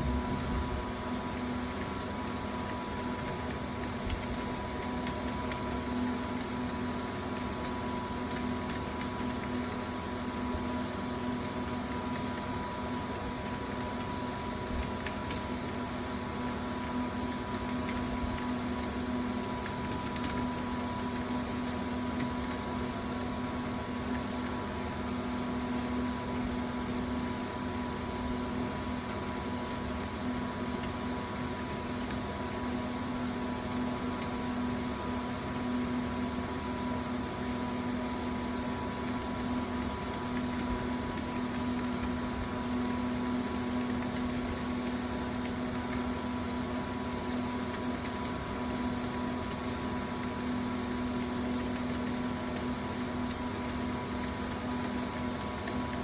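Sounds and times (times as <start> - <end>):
machine hum with hiss: 0.0 - 56.0.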